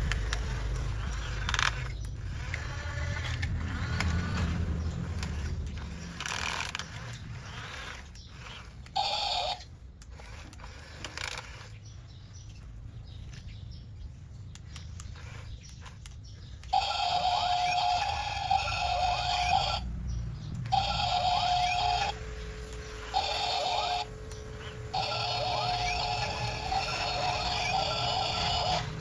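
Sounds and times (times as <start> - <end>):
scattered clicks: 0.0 - 11.8, 14.4 - 29.0
small electric motor whining: 0.0 - 12.0, 15.0 - 19.9, 20.6 - 29.0.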